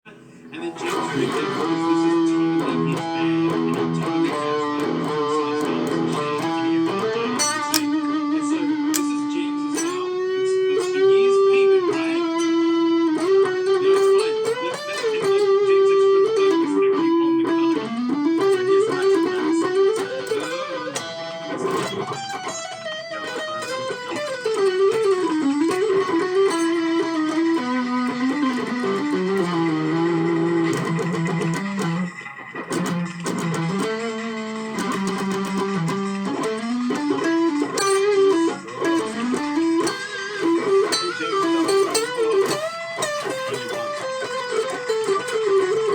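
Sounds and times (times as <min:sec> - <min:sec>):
electric guitar solo: 0:00.1 - 0:45.9.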